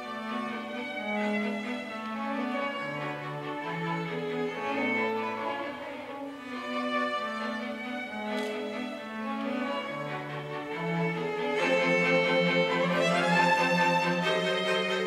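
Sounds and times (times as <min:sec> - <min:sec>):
string quartet sustained bowed notes: 0:00.0 - 0:15.0.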